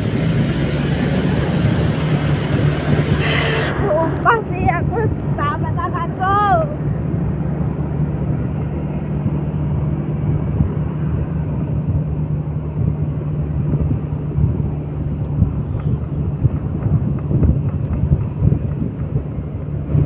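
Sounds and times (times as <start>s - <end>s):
vehicle engine humming: 0.0s - 20.0s
wind buffeting microphone: 0.0s - 20.0s.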